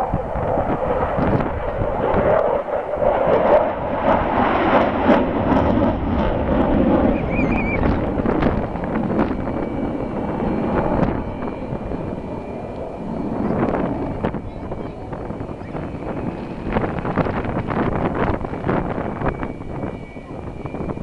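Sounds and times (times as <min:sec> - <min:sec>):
jet flying overhead: 0:00.0 - 0:21.0
wind noise on microphone: 0:00.0 - 0:21.0.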